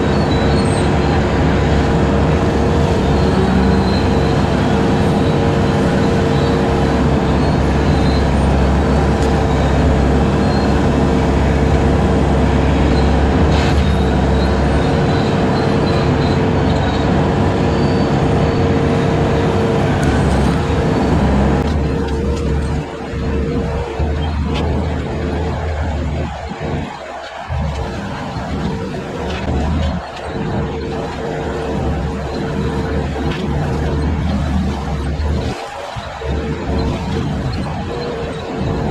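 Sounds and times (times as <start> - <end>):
diesel engine running hard: 0.0 - 38.9
hydraulic brush cutter whine: 0.0 - 38.9.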